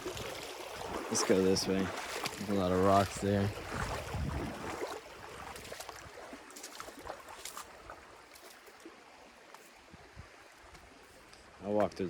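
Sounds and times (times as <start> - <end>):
footsteps in shallow water: 0.0 - 12.0
stream trickling: 0.0 - 12.0.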